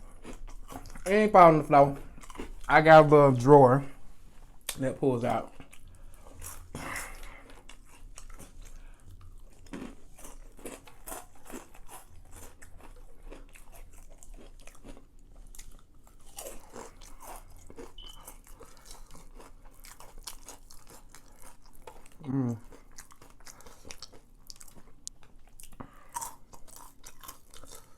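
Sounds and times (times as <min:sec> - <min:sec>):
chewing crispy chicken: 0:00.0 - 0:03.5, 0:04.6 - 0:27.9.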